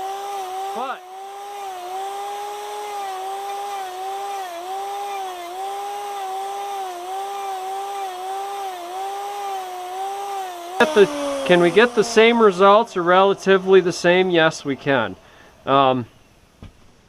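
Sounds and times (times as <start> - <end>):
power tool carving wood: 0.0 - 16.2.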